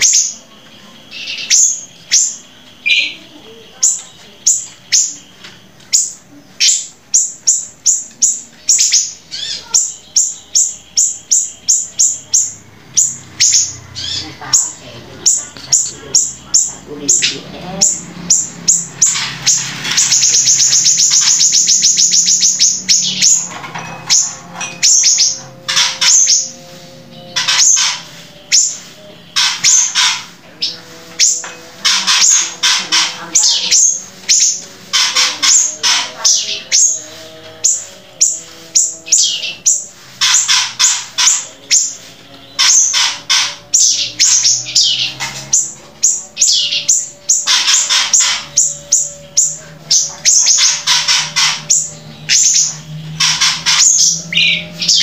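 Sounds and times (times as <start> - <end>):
songbird chirping: 0.0 - 55.0.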